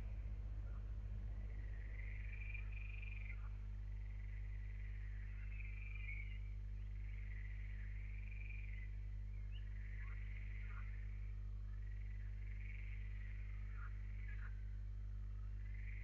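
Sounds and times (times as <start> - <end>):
low hum: 0.0 - 16.0
faint chirping animal calls: 1.4 - 16.0.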